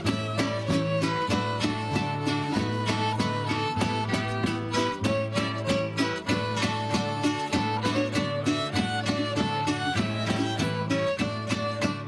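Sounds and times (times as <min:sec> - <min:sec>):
string band dance tune: 0:00.0 - 0:12.0.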